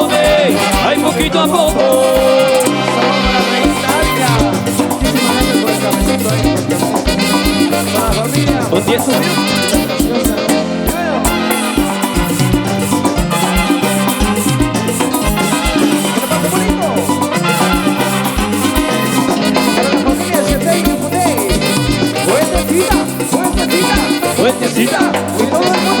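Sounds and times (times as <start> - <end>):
salsa music with brass: 0.0 - 26.0.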